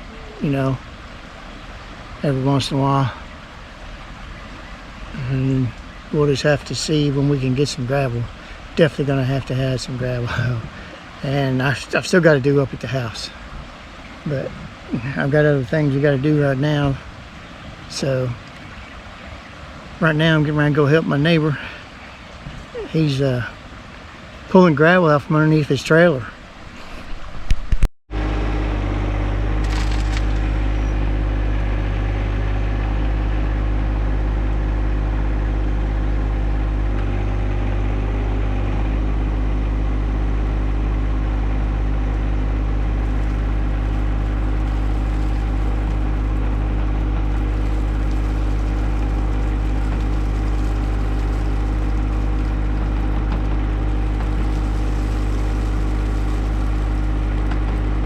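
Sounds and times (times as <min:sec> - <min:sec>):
tractor diesel engine running: 0:00.0 - 0:26.8, 0:28.1 - 0:58.0.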